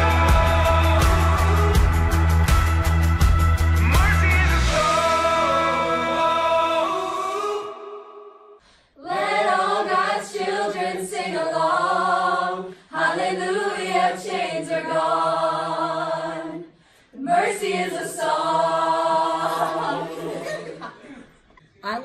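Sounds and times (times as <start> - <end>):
choir singing a cappella: 0.0 - 2.8, 4.6 - 21.3.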